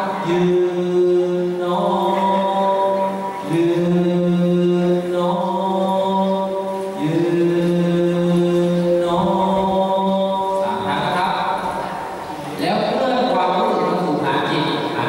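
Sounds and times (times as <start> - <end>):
chanting in long held tones: 0.0 - 15.0.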